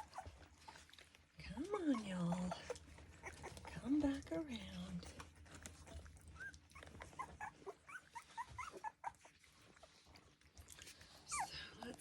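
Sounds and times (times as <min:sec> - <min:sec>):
puppies squeaking and whimpering: 0:00.0 - 0:01.0, 0:01.7 - 0:10.4, 0:11.2 - 0:11.6.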